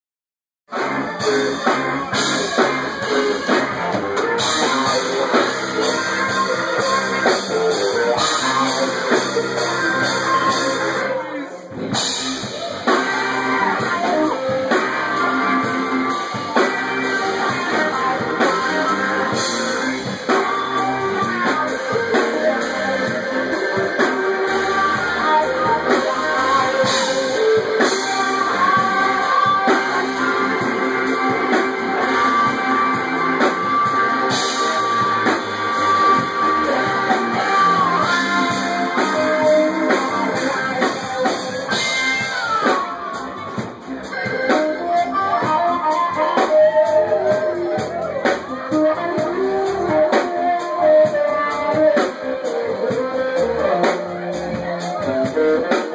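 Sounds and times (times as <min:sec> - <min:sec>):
live rock band playing: 0:00.7 - 0:55.9
person singing: 0:00.7 - 0:55.9.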